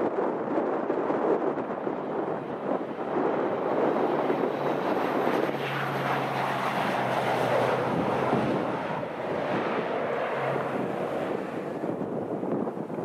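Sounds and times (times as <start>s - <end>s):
propeller plane engine roar: 0.0s - 13.0s
wind buffeting microphone: 0.0s - 13.0s.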